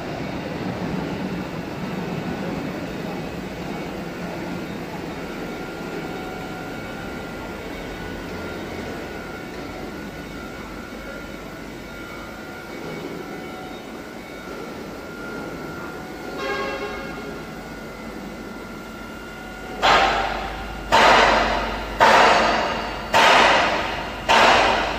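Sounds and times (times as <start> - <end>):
faint high whine: 0.0 - 22.0
factory machinery drone: 0.0 - 24.9.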